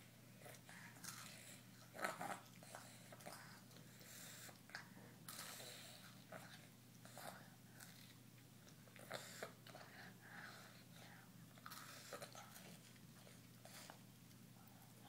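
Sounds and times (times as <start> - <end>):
toddler chewing and sucking: 0.4 - 14.9.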